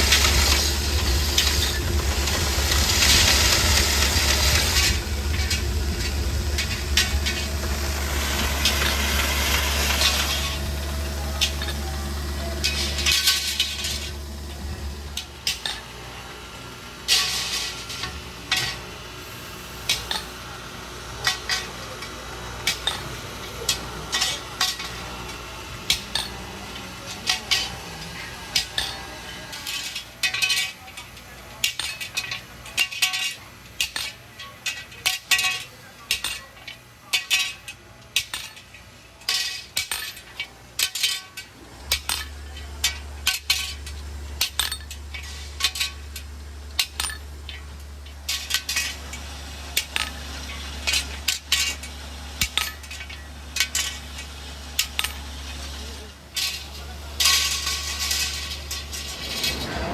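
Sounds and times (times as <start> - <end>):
steady low hum: 0.0 - 34.0, 34.6 - 59.9.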